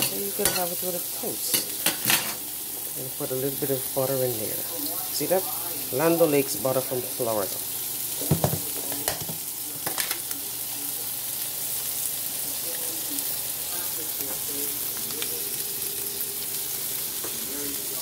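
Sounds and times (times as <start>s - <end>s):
food sizzling in butter: 0.0s - 18.0s.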